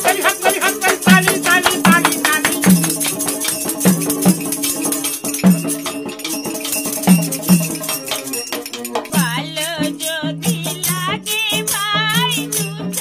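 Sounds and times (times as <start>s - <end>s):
jingling shaken percussion: 0.0s - 13.0s.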